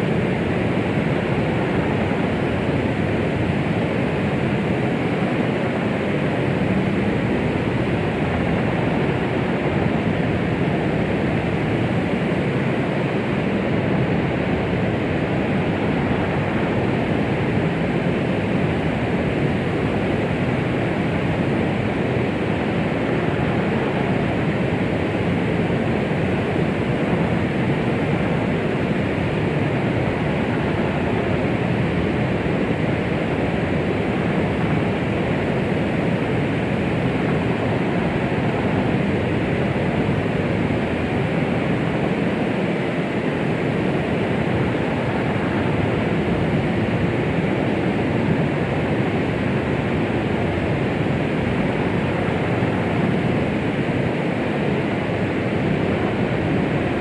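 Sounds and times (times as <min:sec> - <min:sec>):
steady rushing hiss noise: 0:00.0 - 0:57.0.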